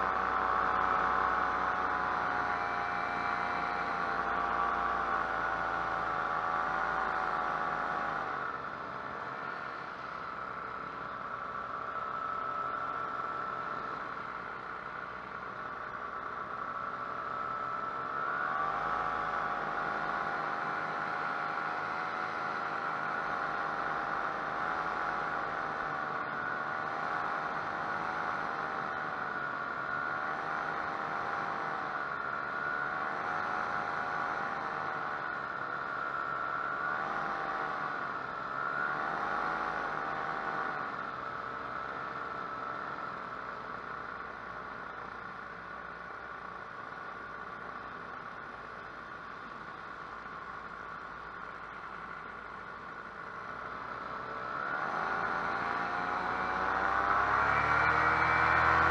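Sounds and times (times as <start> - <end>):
paramotor engine droning: 0.0 - 58.9.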